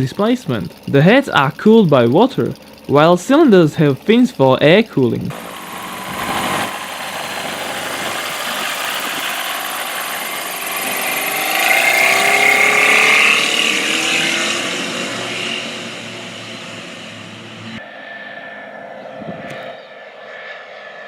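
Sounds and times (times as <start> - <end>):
aircraft engine running: 0.0 - 21.0.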